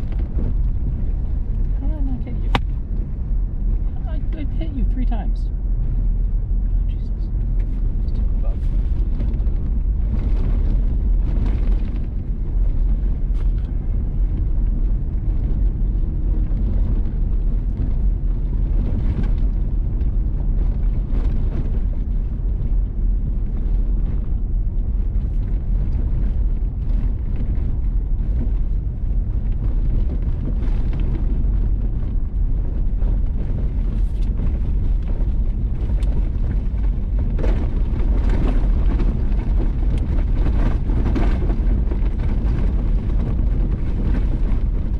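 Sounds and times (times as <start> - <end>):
gravel crackling under tyres: 0.0 - 44.9
vehicle tyres and engine rumble: 0.0 - 44.9.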